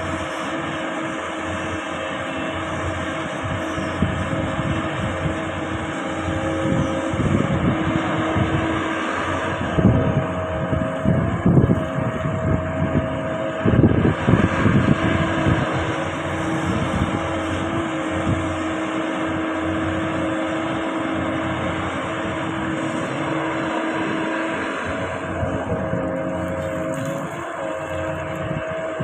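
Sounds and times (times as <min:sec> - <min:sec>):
excavator diesel engine running: 0:00.0 - 0:29.0
hydraulic whine: 0:00.0 - 0:29.0.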